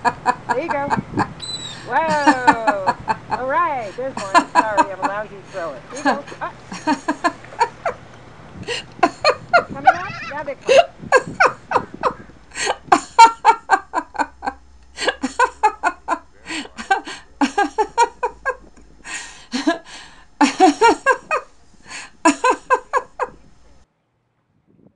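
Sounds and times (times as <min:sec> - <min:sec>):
woman laughing hard: 0:00.0 - 0:08.0, 0:08.6 - 0:23.4.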